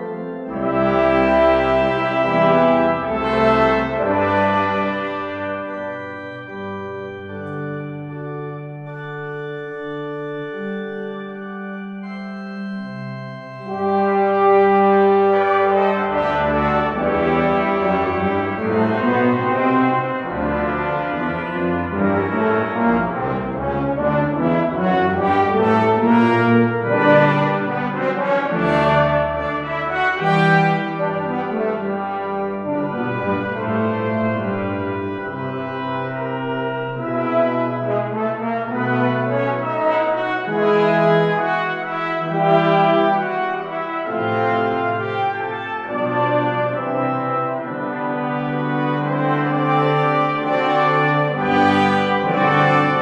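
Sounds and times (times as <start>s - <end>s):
organ playing sustained chords: 0.0s - 53.0s.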